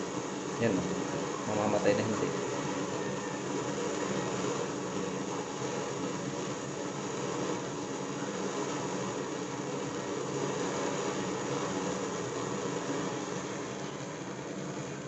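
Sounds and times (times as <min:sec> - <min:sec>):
stove burner flame rushing: 0:00.0 - 0:15.0.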